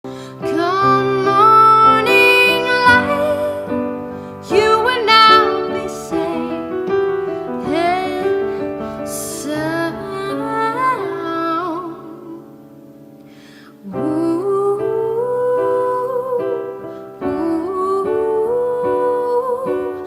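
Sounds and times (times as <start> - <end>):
piano chords: 0.0 - 20.0
woman singing: 0.1 - 12.7, 13.6 - 20.0.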